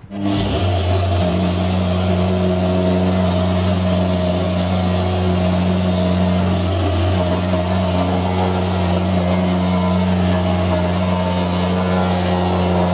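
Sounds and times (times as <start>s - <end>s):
angle grinder motor whine: 0.0s - 12.9s.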